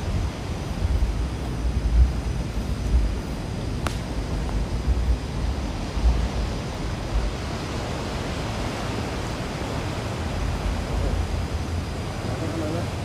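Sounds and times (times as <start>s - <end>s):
sea surf: 0.0s - 13.0s
wind rumbling on microphone: 0.0s - 13.0s.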